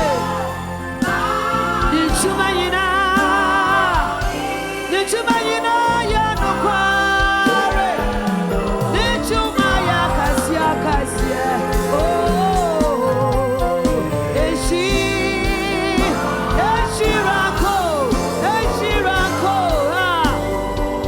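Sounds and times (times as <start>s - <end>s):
held bass line: 0.0s - 21.0s
sung melody with vibrato: 0.0s - 21.0s.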